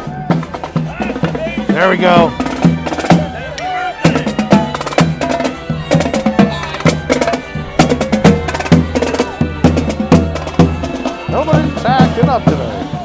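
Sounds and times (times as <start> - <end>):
upbeat parade music with drums: 0.0 - 13.0.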